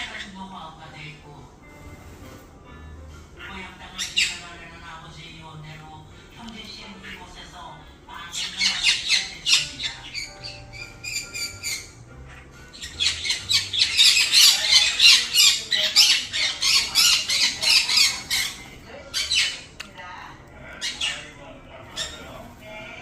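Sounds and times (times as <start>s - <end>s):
parrots squawking: 0.0s - 2.9s, 3.5s - 6.0s, 6.7s - 19.9s, 20.6s - 22.8s.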